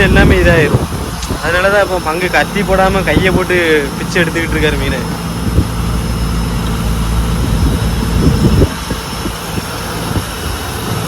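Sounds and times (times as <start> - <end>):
boat engine humming: 0.0 - 11.0
wind rumble on microphone: 0.0 - 11.0.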